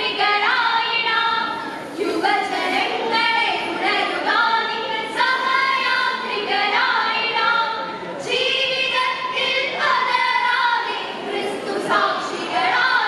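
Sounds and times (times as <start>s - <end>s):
girls singing together: 0.0s - 13.0s.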